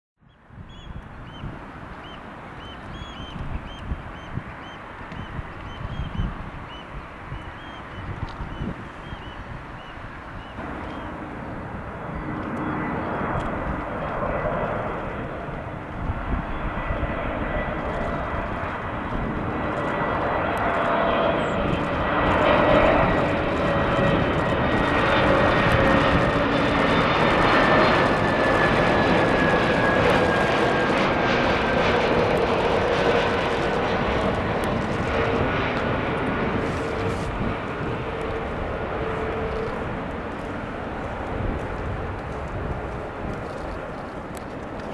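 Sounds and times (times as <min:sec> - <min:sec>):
jet engine rumble with whine: 0:00.2 - 0:44.9.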